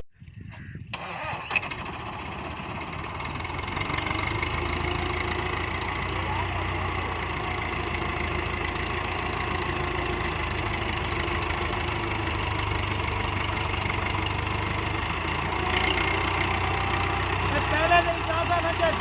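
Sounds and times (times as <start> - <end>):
diesel tractor engine running: 0.4 - 19.0.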